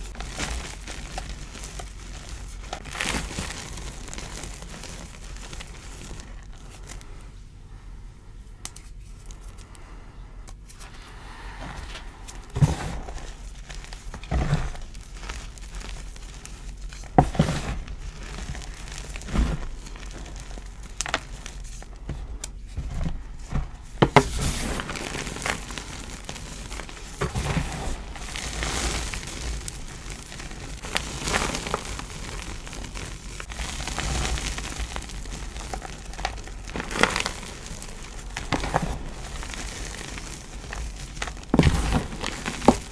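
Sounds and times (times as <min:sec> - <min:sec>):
chalk crunching and crumbling: 0:00.0 - 0:07.4, 0:08.6 - 0:42.9.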